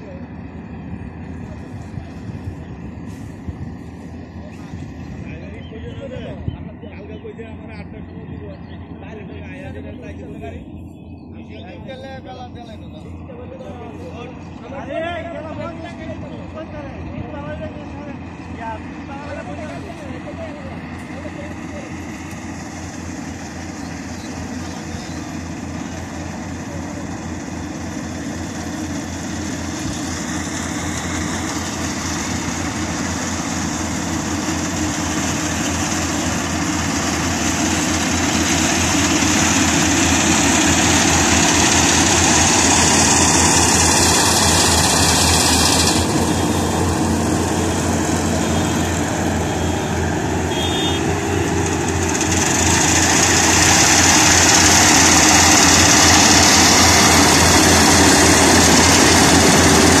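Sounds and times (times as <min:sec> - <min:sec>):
combine harvester running: 0:00.0 - 1:00.0.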